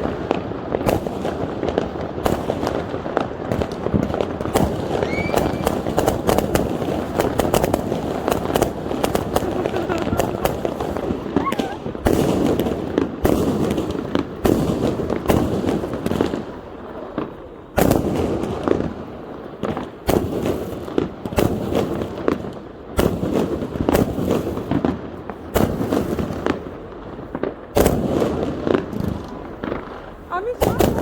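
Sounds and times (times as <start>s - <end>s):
fireworks crackling: 0.0s - 31.0s
fireworks exploding: 0.0s - 31.0s.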